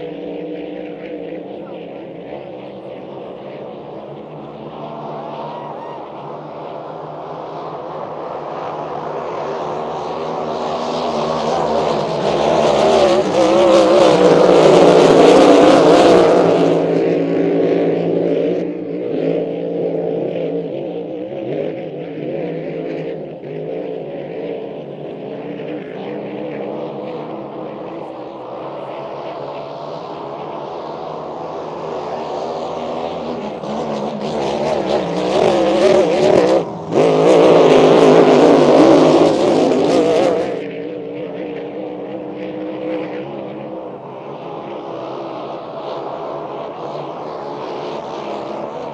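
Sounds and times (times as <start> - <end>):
racing boat engines: 0.0 - 48.9.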